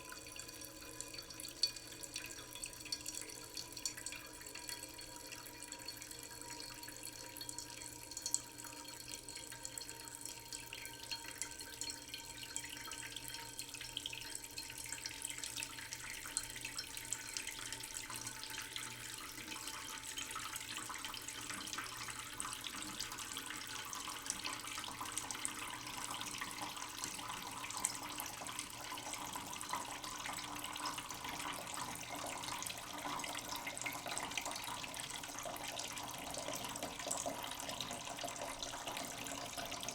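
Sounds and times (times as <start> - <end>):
tap water splashing into a sink: 0.0 - 39.9.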